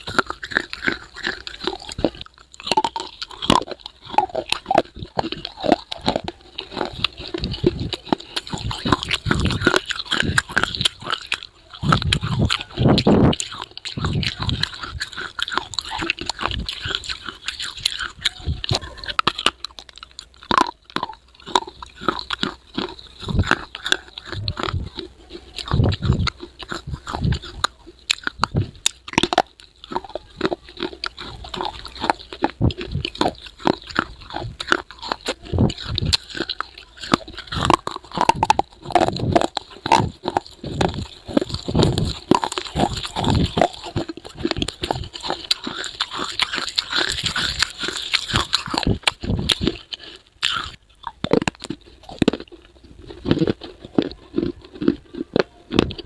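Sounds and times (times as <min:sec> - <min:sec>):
crunching while chewing: 0:00.0 - 0:56.0.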